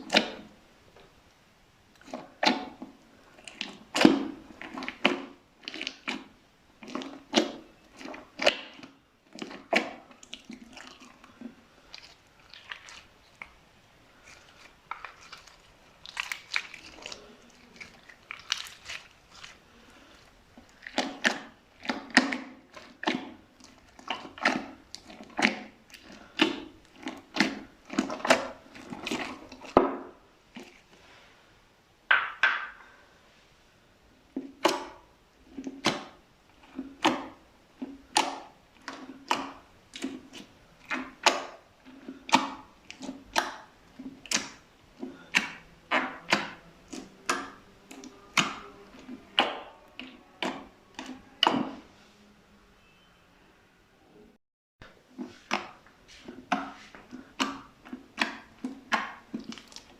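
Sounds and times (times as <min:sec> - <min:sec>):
slime squishing by hand: 0:00.0 - 0:31.3, 0:34.1 - 0:52.2, 0:54.8 - 0:59.9.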